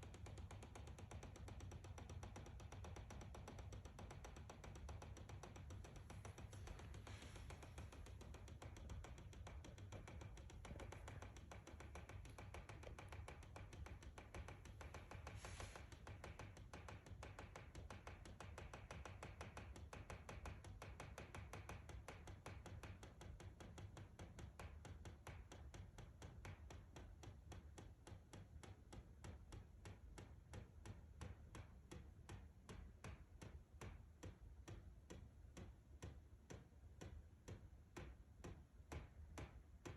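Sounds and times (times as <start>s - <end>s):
faint ticking inside wall: 0.0s - 39.9s.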